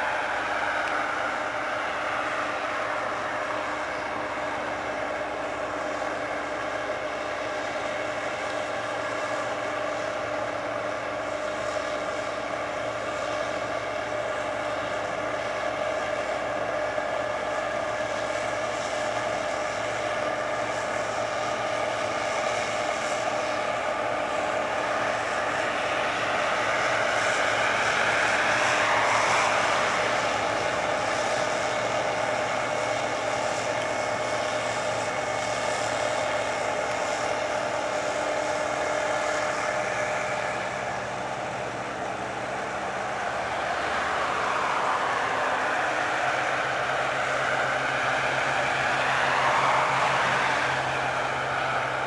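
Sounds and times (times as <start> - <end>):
machine engine whining drone: 0.0 - 52.0.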